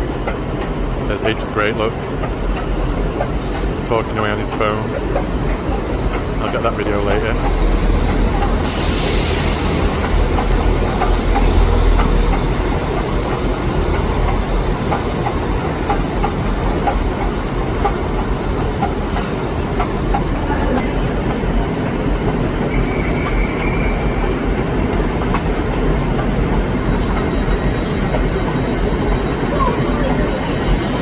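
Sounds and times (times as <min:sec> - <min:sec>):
train rumbling: 0:00.0 - 0:31.0
wheels clicking over rail joints: 0:00.0 - 0:31.0.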